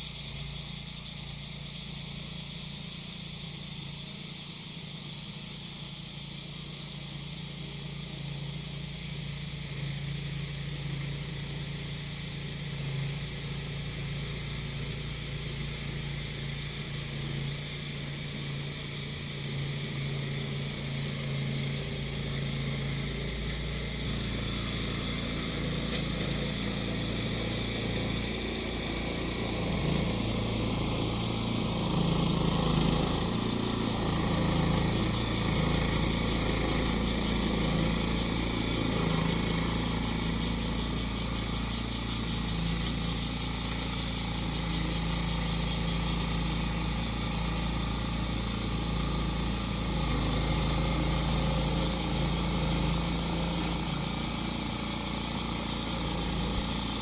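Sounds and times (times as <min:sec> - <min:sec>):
cicadas buzzing: 0:00.0 - 0:57.0
lawn mower engine running: 0:00.0 - 0:57.0.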